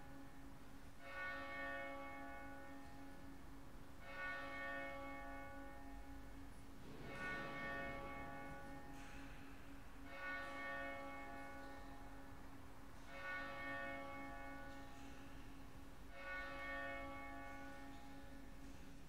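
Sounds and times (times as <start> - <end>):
church bell tolling: 0.0 - 19.0.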